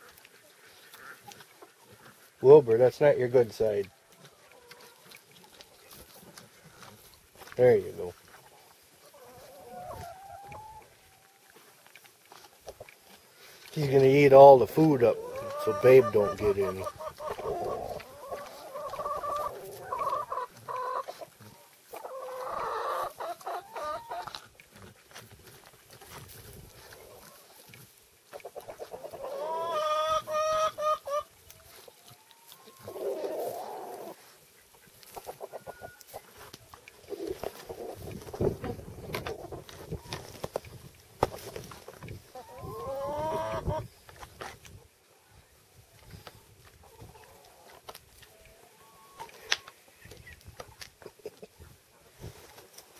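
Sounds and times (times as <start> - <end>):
farm animal calling: 0.0 - 40.6, 41.3 - 44.0, 46.1 - 51.7
pig rustling through straw: 0.0 - 44.8, 51.7 - 52.9.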